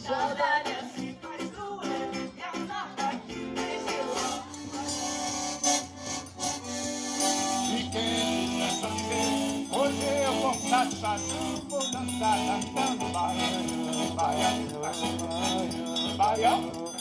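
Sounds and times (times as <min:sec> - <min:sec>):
man singing: 0:00.0 - 0:05.6, 0:07.3 - 0:17.0
accordion: 0:00.0 - 0:17.0.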